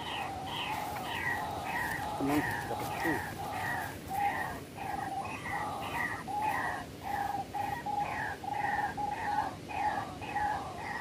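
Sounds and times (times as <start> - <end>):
waterhen calls: 0.0 - 11.0.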